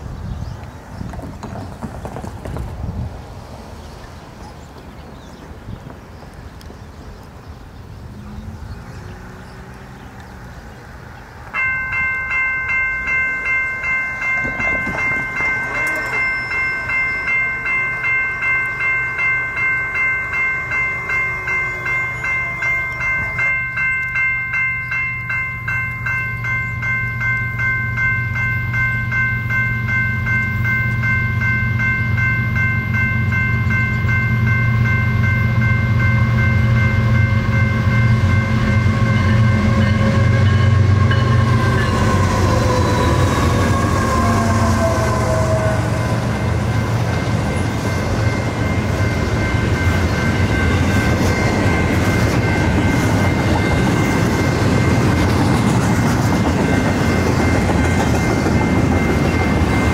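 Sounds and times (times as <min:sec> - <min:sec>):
diesel locomotive rumble: 0:05.4 - 0:59.9
railroad crossing bell ringing: 0:11.4 - 0:59.9.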